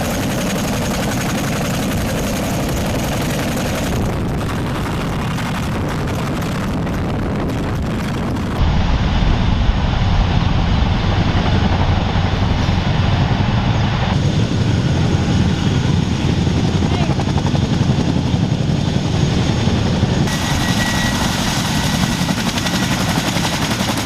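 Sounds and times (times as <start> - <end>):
helicopter rotor beating: 0.0 - 24.0
helicopter turbines: 0.0 - 24.0.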